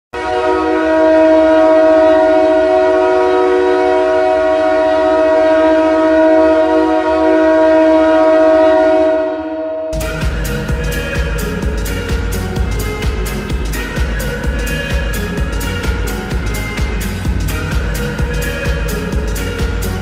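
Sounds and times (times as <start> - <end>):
goal horn blast: 0.1 - 20.0.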